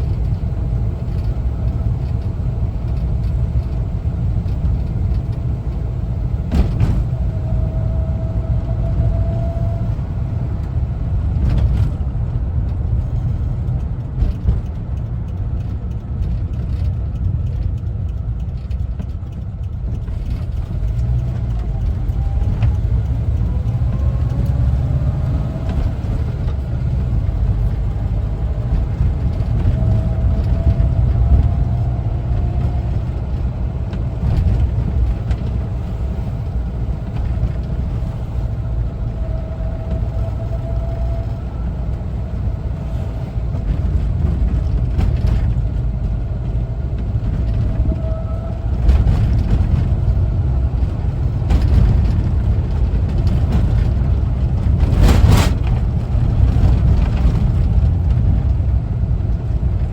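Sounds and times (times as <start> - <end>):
engine and road rumble: 0.0 - 59.9.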